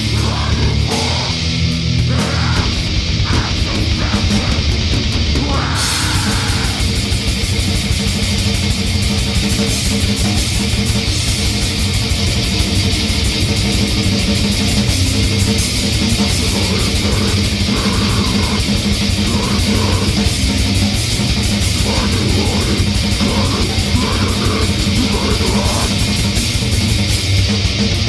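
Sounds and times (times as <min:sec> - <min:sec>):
metal music: 0:00.0 - 0:28.0.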